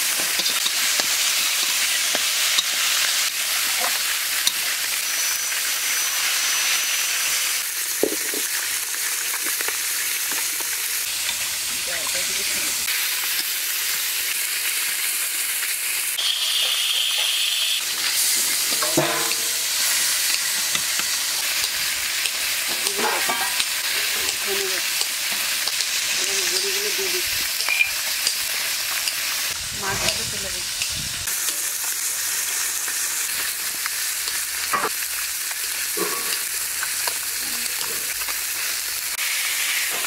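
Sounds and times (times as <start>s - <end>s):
curry sizzling in a pan: 0.0s - 40.0s.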